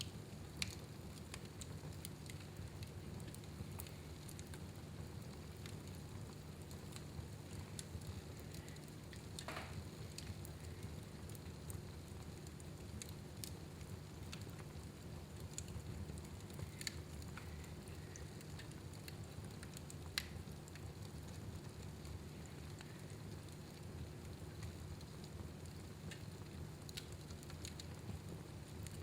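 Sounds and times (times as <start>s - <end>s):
fire low rumble: 0.0s - 29.0s
wood fire crackling: 0.0s - 29.0s.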